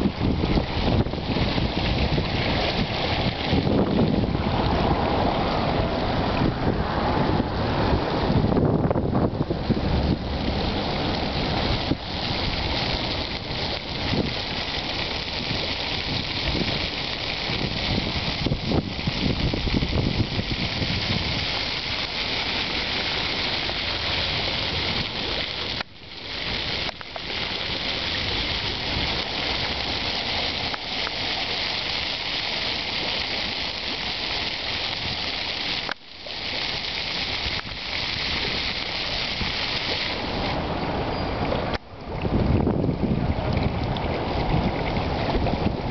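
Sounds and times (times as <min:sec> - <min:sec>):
fountain water splashing: 0:00.0 - 0:45.9
wind on microphone: 0:00.0 - 0:45.9.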